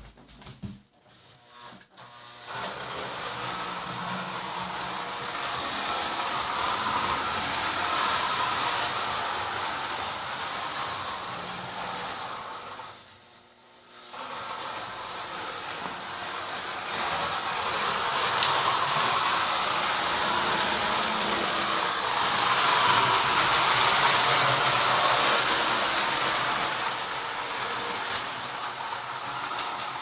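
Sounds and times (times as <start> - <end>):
toy train rumbling on metal track: 2.6 - 13.0, 14.1 - 30.0.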